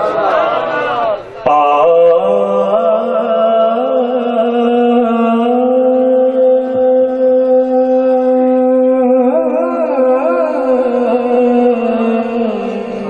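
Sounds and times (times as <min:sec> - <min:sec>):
man singing into microphone: 0:01.4 - 0:13.0.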